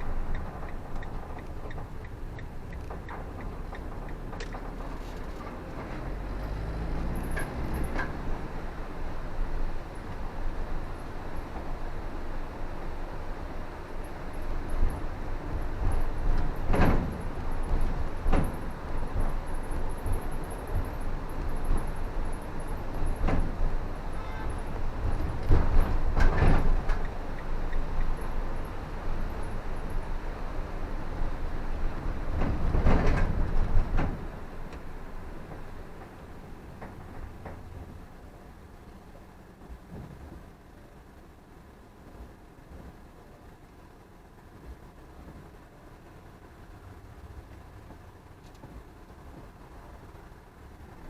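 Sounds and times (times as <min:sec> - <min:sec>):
car engine and tyres rumbling: 0:00.0 - 0:51.0.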